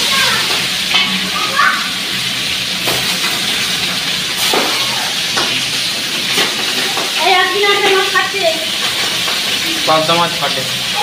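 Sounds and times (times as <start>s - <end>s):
food sizzling in hot oil: 0.0s - 11.0s
oil popping: 0.0s - 11.0s.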